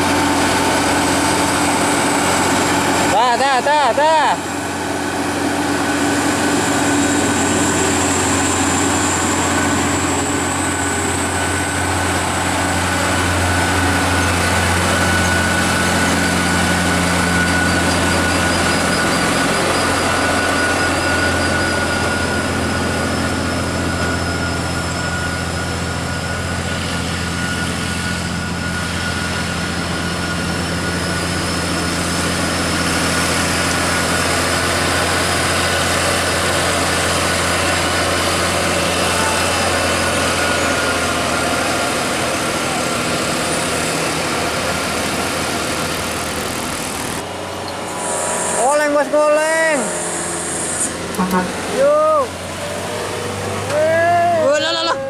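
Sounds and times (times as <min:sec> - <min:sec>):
diesel truck engine running: 0:00.0 - 0:55.0
thin steady whine: 0:00.0 - 0:55.0.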